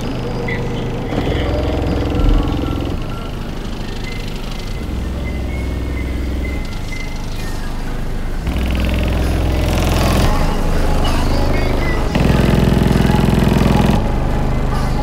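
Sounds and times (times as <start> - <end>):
rapid buzz: 0.0 - 7.2, 8.3 - 14.4
bass-heavy music from subwoofer: 0.0 - 15.0.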